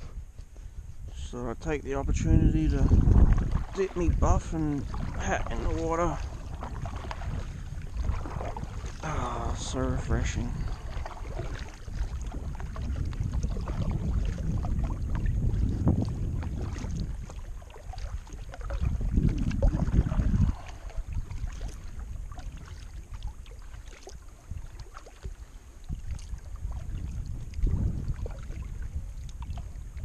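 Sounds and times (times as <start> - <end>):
low rumble: 0.0 - 22.8, 26.4 - 30.0
paddle strokes: 0.0 - 30.0
water splashing and dripping: 2.5 - 30.0.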